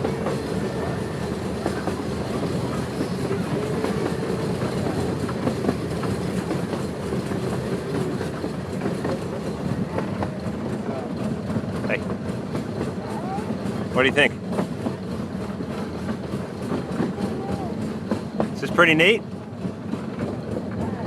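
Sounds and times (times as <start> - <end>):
train cars rumbling on track: 0.0 - 21.0
wheels clickety-clack over rails: 0.0 - 21.0.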